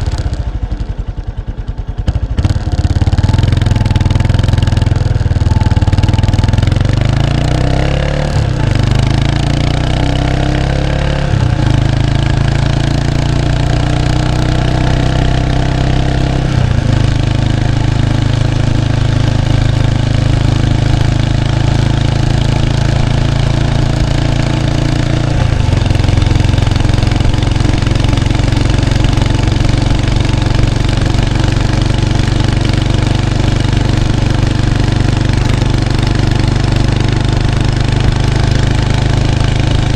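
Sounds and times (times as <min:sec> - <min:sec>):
motorcycle engine exhaust: 0:00.0 - 0:39.9.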